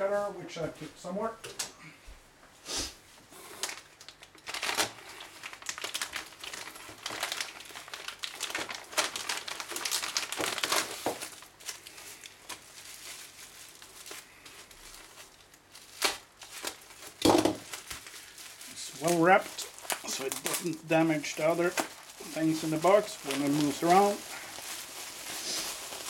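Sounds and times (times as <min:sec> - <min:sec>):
plastic bag crinkling: 0:03.4 - 0:26.0.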